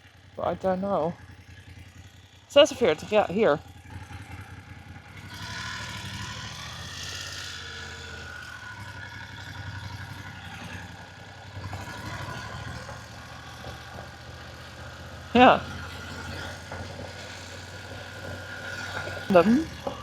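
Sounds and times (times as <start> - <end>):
motorcycle engine at low speed: 0.0 - 20.0.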